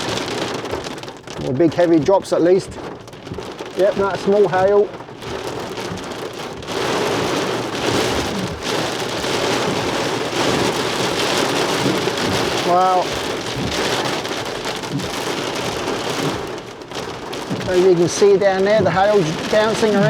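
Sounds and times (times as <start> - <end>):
small hail pattering: 0.0 - 20.0.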